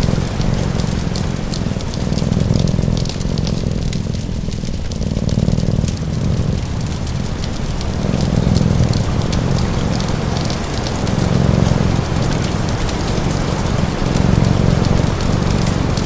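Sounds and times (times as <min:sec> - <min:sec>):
cat purring: 0:00.0 - 0:16.0
steady rain: 0:00.0 - 0:16.0
wood fire crackling: 0:00.0 - 0:16.0.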